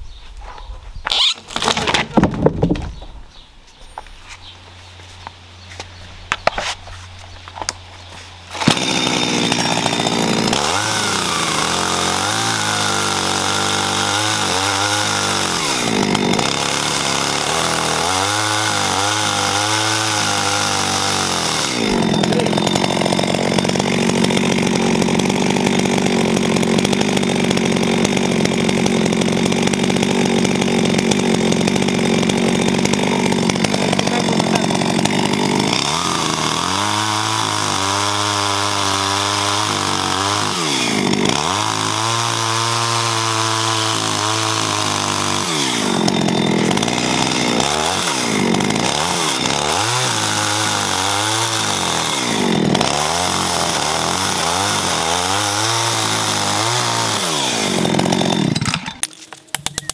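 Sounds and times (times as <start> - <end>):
chainsaw engine revving: 1.1 - 2.1, 8.5 - 59.9.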